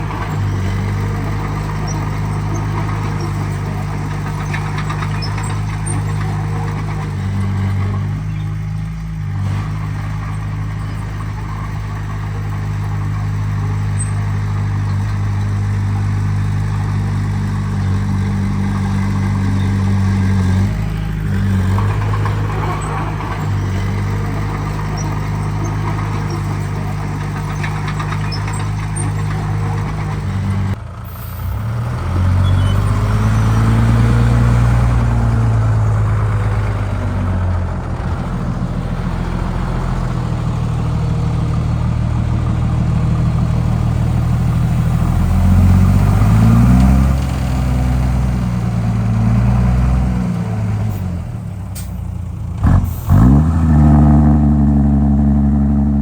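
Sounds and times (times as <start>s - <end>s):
diesel engine revving under load: 0.0s - 56.0s.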